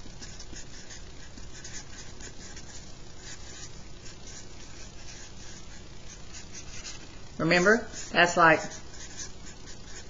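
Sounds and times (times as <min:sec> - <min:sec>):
marker scratching on paper: 0:00.0 - 0:10.0.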